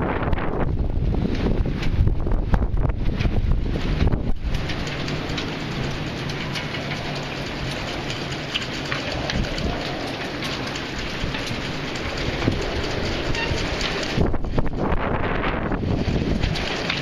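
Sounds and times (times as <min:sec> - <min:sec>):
wind rumble on microphone: 0:00.0 - 0:17.0
wind-driven rain: 0:00.0 - 0:17.0.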